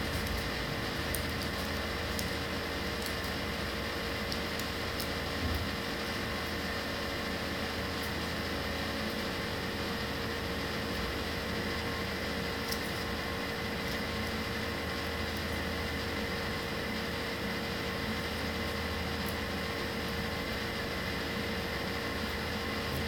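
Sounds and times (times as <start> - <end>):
fan hum and hiss: 0.0 - 23.0.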